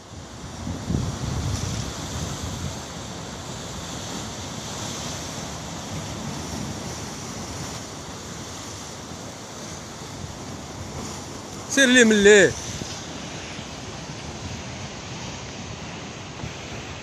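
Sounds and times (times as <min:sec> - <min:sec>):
sea surf breaking over rocks: 0:00.0 - 0:17.0.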